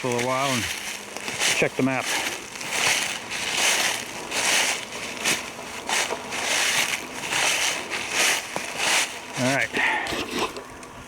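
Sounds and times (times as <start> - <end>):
footsteps crunching dry leaves: 0.0 - 10.0.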